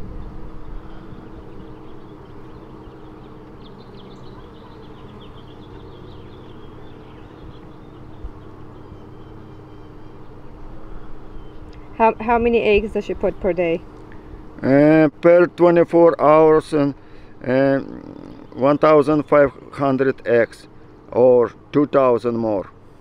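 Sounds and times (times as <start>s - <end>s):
honeybee colony humming: 0.0s - 23.0s.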